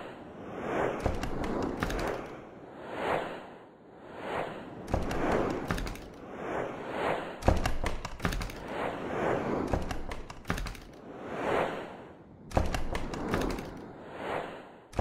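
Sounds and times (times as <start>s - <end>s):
rushing whooshes: 0.0s - 15.0s.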